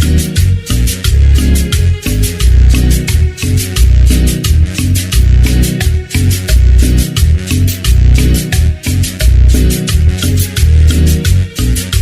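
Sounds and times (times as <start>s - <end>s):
heavy bass line: 0.0s - 12.0s
quick percussion beat: 0.0s - 12.0s.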